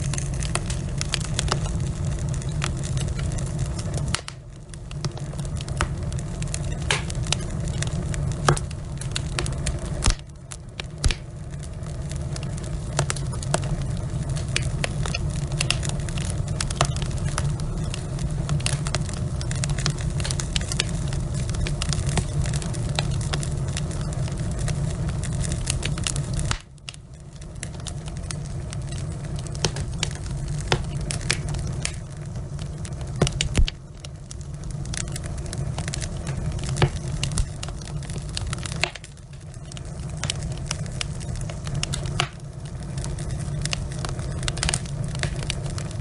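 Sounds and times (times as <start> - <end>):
logs crackling and popping: 0.0 - 46.0
low steady rumble: 0.0 - 46.0.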